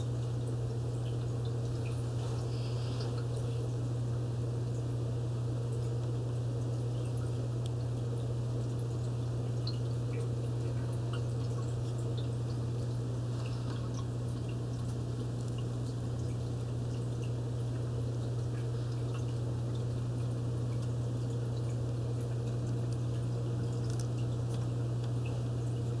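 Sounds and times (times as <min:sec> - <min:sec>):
aquarium filter hum: 0:00.0 - 0:26.0
faint water drips: 0:00.0 - 0:26.0
water trickling: 0:00.0 - 0:26.0.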